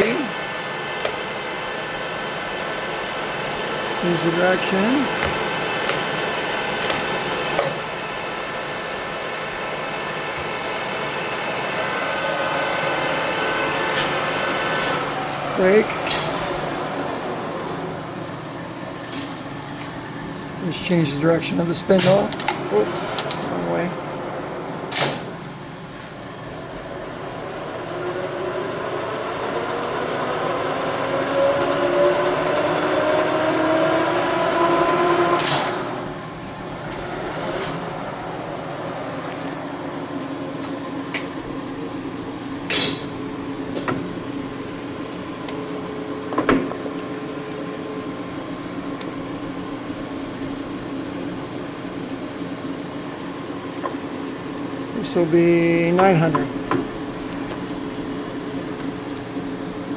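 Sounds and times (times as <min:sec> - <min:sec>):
lathe gear whine: 0:00.0 - 0:59.9.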